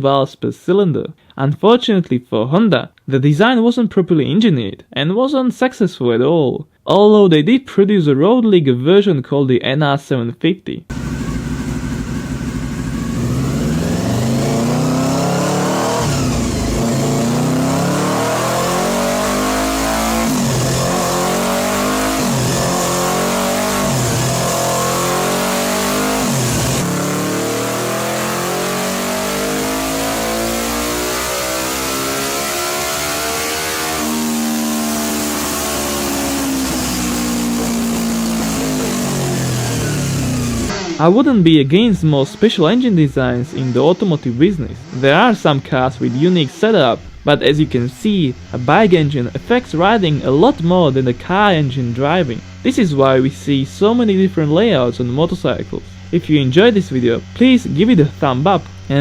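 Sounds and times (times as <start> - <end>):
motorcycle engine revving: 10.9 - 59.0.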